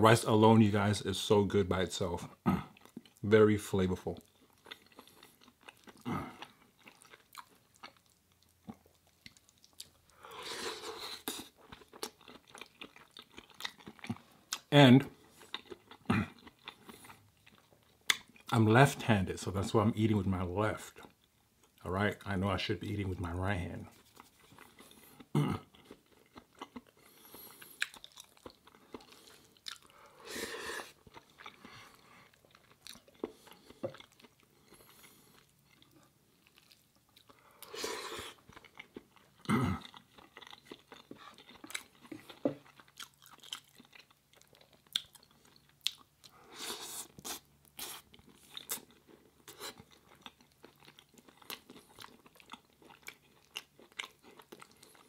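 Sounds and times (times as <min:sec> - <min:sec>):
person chewing food: 0:02.3 - 0:03.2, 0:04.2 - 0:18.5, 0:23.9 - 0:55.0.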